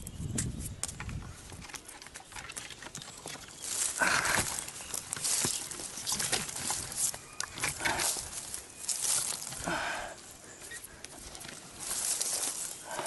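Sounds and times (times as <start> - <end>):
leafy branches rustling: 1.3 - 13.0.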